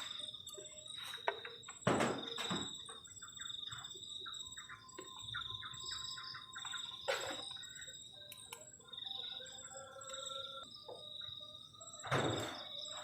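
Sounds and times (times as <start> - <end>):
crickets trilling: 0.0 - 13.0
low repeated chirps: 0.0 - 13.0.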